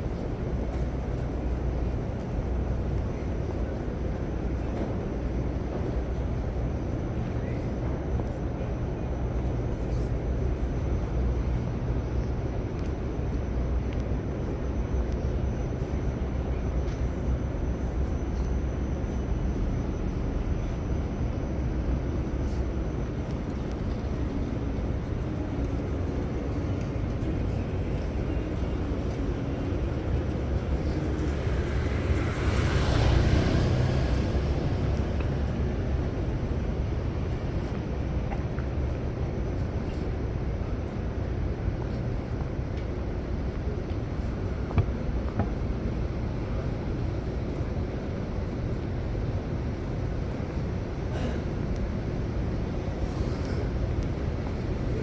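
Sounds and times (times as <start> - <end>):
city street traffic rumble: 0.0 - 55.0.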